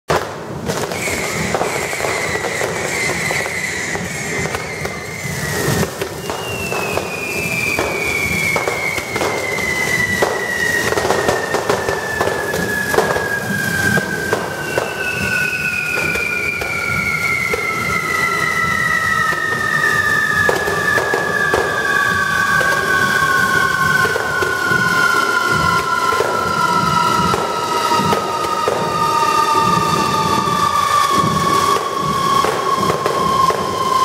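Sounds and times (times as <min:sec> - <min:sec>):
fireworks fizzing hiss: 0:00.1 - 0:34.0
long descending whistles: 0:00.2 - 0:34.0.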